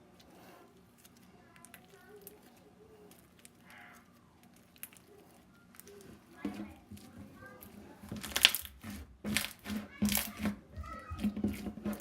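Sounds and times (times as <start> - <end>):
slime clicking and crackling: 0.0 - 12.0.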